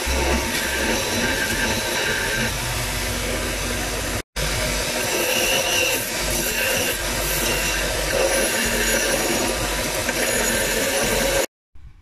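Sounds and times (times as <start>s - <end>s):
belt grinder grinding metal: 0.0s - 11.5s.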